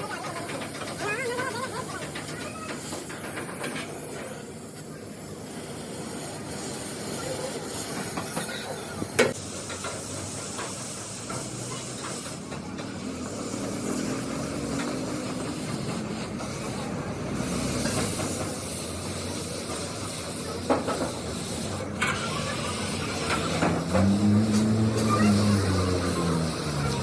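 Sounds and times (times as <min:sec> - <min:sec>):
workshop background noise: 0:00.0 - 0:27.0.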